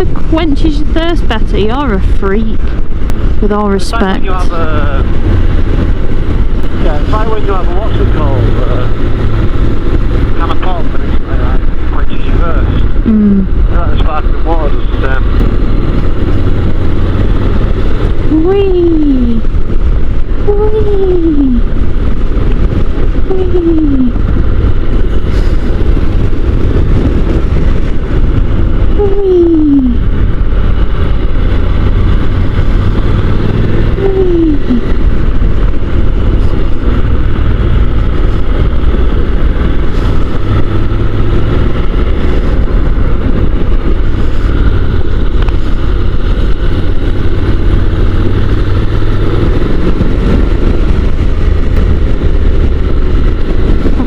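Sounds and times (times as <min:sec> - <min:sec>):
motorcycle engine drone: 0:00.0 - 0:54.0
wind rush: 0:00.0 - 0:54.0.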